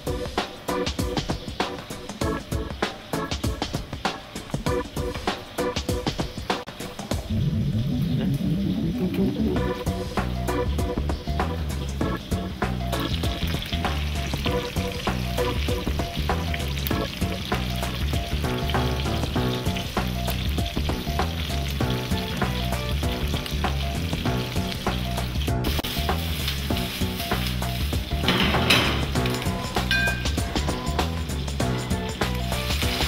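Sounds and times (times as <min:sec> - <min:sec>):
vegetable slices sizzling in oil: 0:00.1 - 0:33.0.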